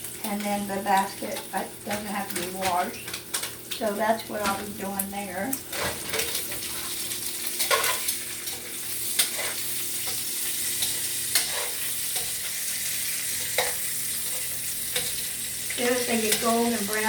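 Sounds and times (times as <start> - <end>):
hot dogs sizzling in grease: 0.0 - 17.0.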